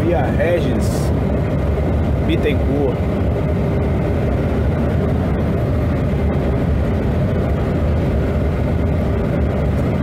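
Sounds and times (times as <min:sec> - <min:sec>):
engine and road noise: 0:00.0 - 0:10.0.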